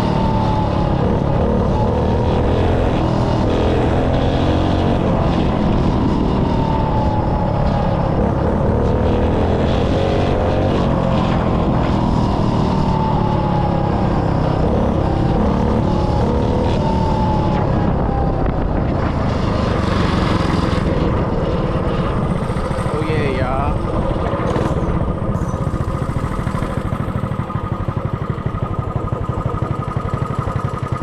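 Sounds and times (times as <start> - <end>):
mini bike engine revving: 0.0 - 31.0.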